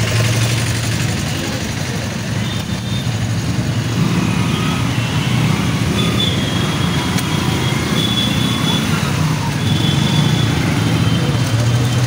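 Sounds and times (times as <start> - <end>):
auto-rickshaw engine chugging: 0.0 - 12.0
street traffic: 0.0 - 12.0.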